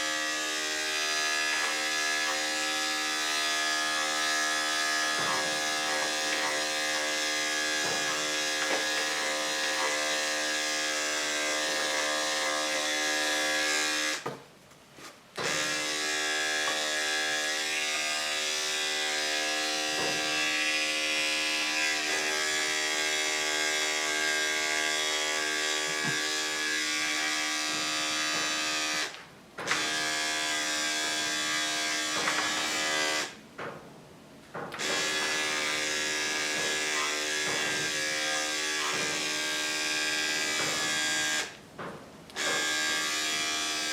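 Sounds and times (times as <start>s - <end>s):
electric clippers buzzing: 0.0s - 14.2s, 15.4s - 33.4s, 34.8s - 41.6s, 42.3s - 43.9s.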